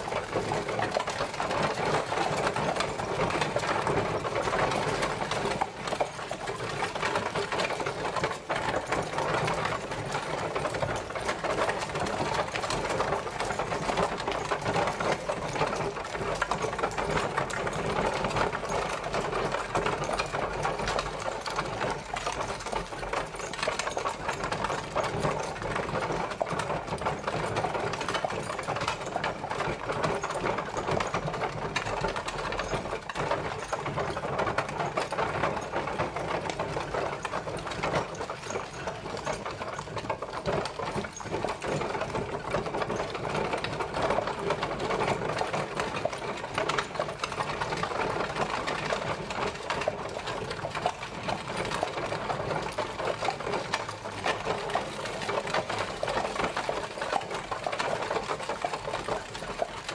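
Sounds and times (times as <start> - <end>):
carriage wheels rattling: 0.0 - 59.9.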